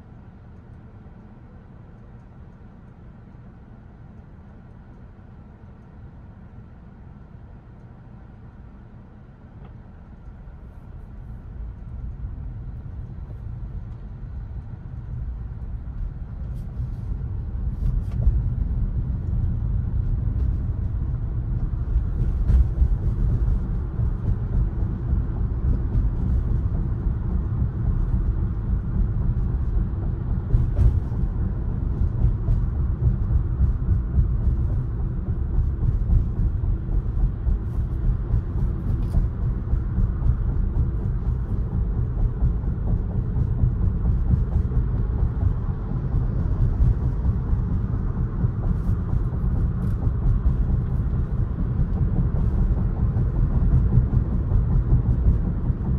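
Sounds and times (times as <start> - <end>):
car road and tyre rumble: 0.0 - 55.9.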